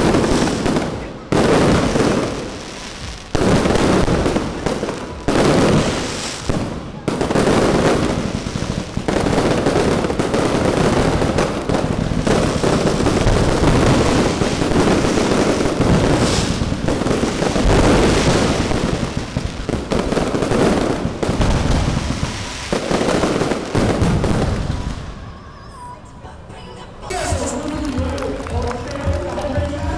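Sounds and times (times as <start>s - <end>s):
fireworks bangs and crackles: 0.0s - 25.8s, 27.0s - 29.9s.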